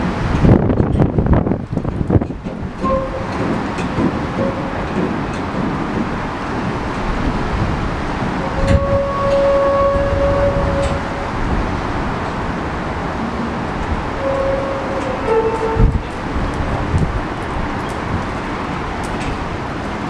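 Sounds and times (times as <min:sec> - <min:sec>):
freight train wheels clattering: 0:00.0 - 0:20.0.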